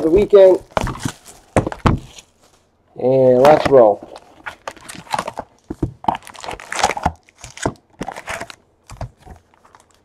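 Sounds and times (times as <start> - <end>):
card packs crinkling and rustling: 0.0 - 10.0.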